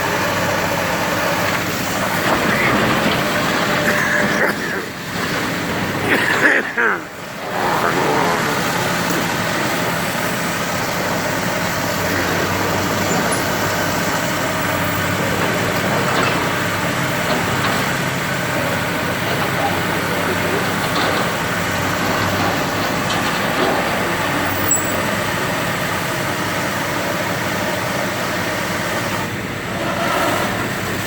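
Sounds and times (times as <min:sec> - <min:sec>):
engine running steadily: 0:00.0 - 0:31.0
voices: 0:00.2 - 0:28.5.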